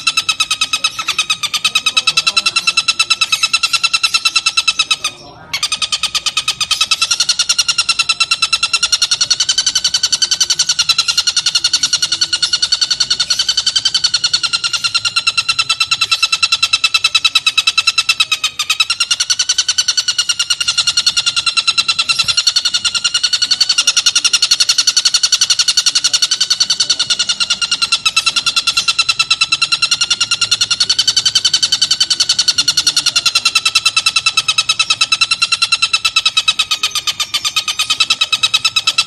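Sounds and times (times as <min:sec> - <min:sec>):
bird harsh chattering call: 0:00.0 - 0:39.0.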